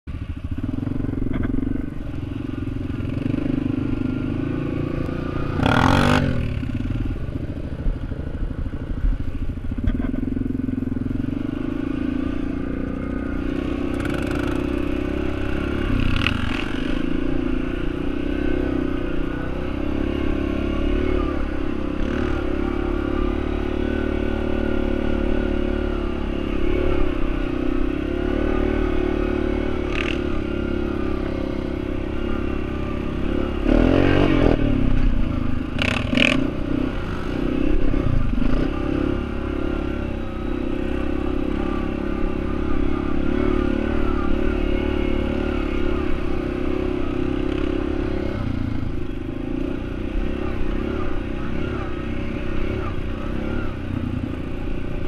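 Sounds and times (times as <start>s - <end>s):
quad engine running: 0.1s - 55.0s.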